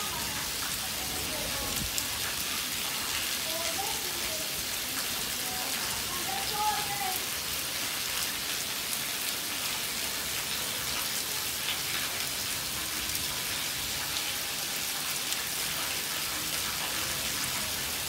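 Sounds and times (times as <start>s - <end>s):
heavy rain hiss: 0.0s - 18.0s.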